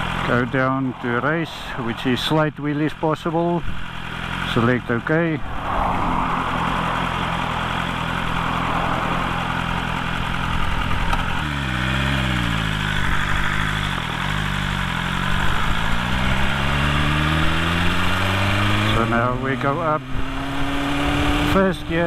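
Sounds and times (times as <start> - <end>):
motorcycle accelerating: 0.0 - 22.0
motorcycle engine idling: 0.0 - 22.0.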